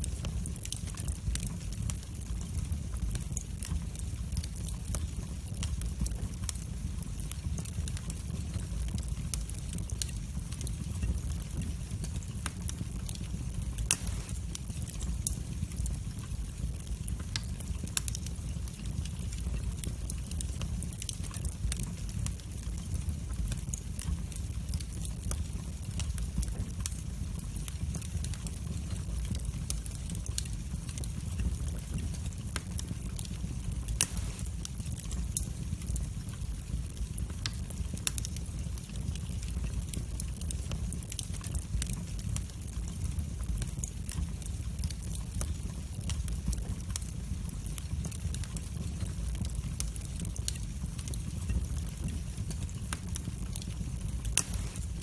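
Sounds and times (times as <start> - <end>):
fire crackles and pops: 0.0 - 55.0
fire flames rumbling: 0.0 - 55.0.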